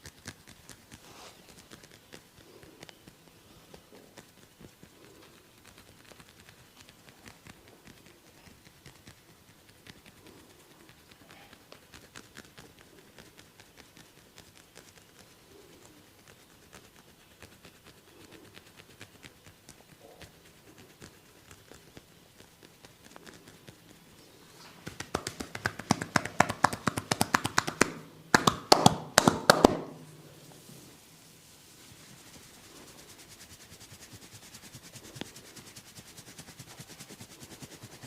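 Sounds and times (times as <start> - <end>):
soft clicks and taps of massage: 0.0 - 30.8, 32.0 - 38.0.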